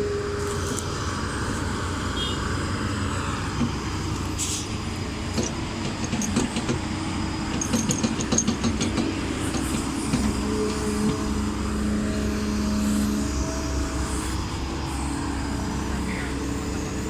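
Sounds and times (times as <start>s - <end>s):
diesel earthmoving machinery running: 0.0s - 17.0s.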